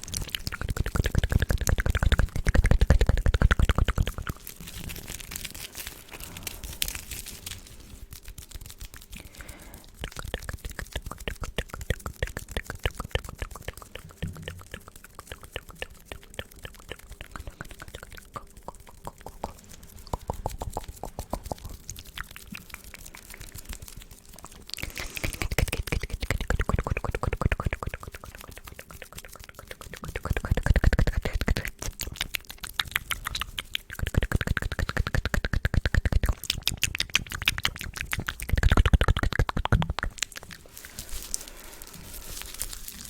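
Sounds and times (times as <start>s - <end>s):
wet lip and tongue clicks: 0.0s - 43.0s.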